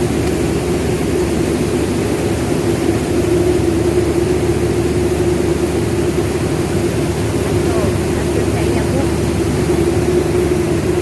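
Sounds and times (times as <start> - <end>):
milling machinery drone: 0.0 - 11.0.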